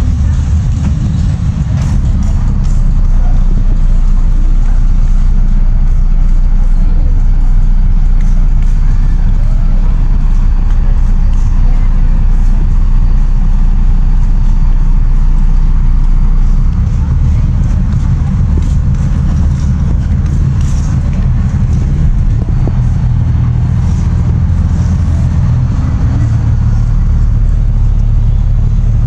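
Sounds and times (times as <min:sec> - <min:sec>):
road noise: 0:00.0 - 0:29.0
vehicle engine rumble: 0:00.0 - 0:29.0.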